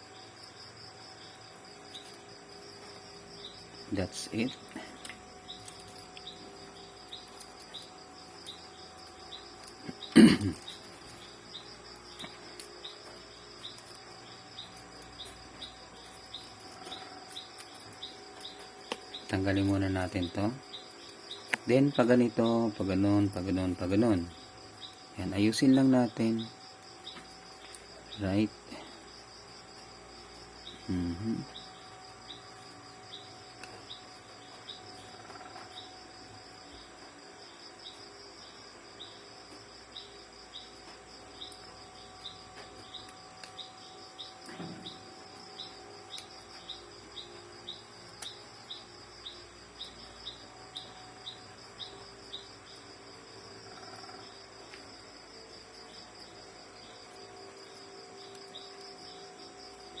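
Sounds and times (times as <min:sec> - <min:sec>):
insects trilling: 0:00.0 - 1:00.0.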